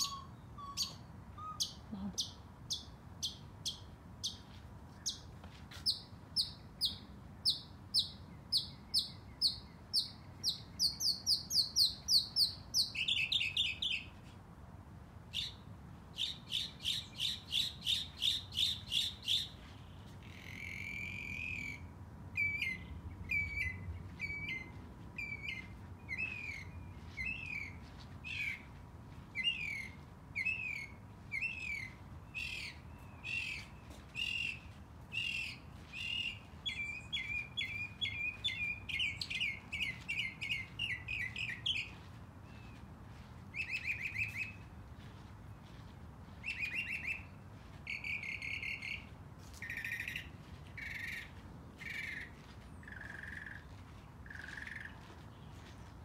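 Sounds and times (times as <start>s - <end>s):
songbird singing: 0.0s - 14.4s, 15.3s - 56.0s.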